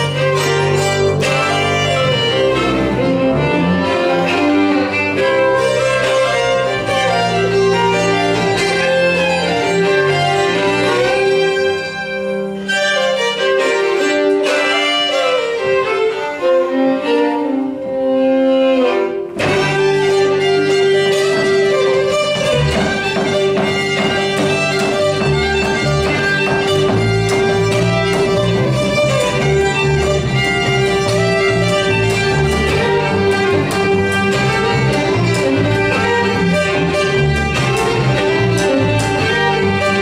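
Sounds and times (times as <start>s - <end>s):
bowed upright bass: 0.0s - 40.0s
fiddles playing folk tune: 0.0s - 40.0s.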